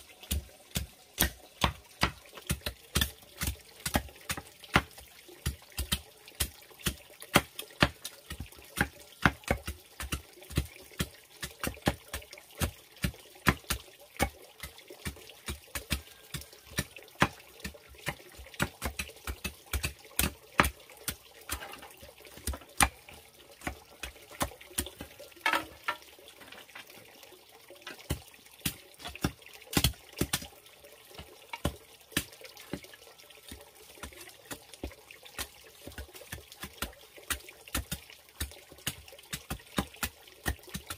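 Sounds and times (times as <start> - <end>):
machete chopping bamboo: 0.2 - 26.0, 28.0 - 30.5, 33.5 - 40.9.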